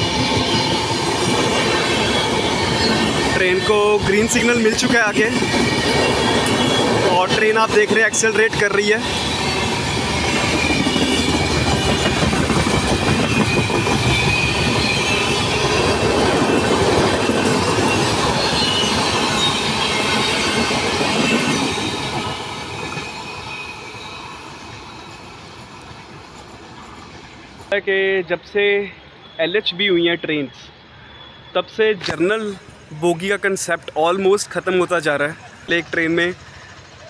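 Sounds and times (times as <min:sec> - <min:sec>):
high wheel squeals: 0:00.0 - 0:27.7, 0:28.7 - 0:37.0
train rolling on rails: 0:00.0 - 0:29.5, 0:30.2 - 0:37.0.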